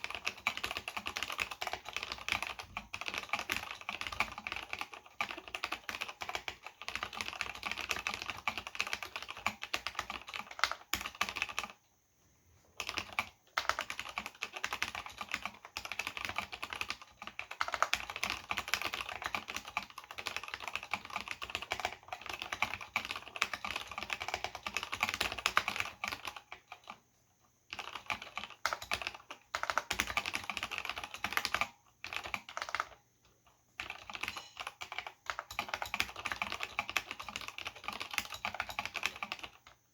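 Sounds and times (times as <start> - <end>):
mechanical keyboard typing: 0.0 - 11.8, 12.8 - 27.0, 27.7 - 39.9.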